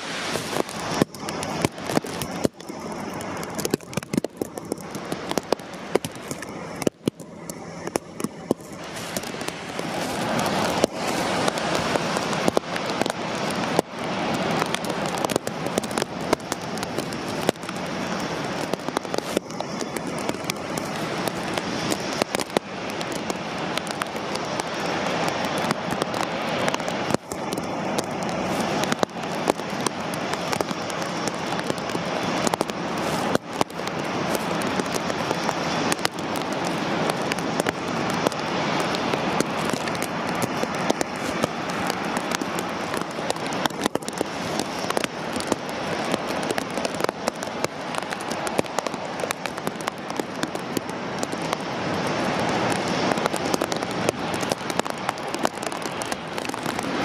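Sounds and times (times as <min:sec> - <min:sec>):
rain drops ticking: 0:00.0 - 0:57.0.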